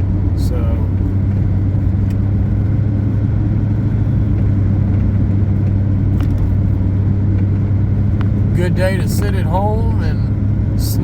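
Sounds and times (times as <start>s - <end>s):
vehicle engine and tyres droning: 0.0s - 11.0s.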